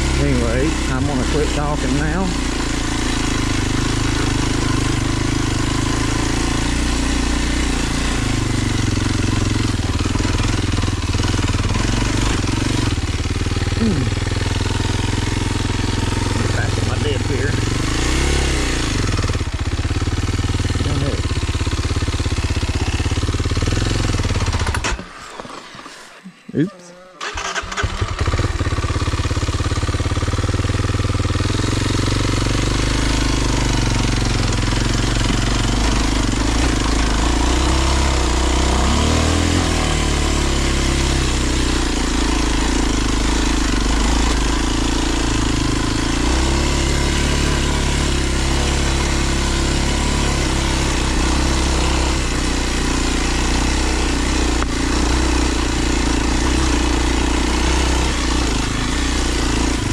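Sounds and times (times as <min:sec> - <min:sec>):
motorcycle engine starting and running: 0:00.0 - 0:26.0, 0:27.2 - 0:59.9.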